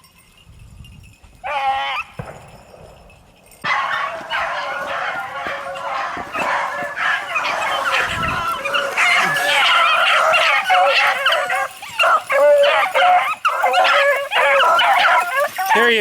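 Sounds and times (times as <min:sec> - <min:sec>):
hounds baying: 0:01.4 - 0:16.0.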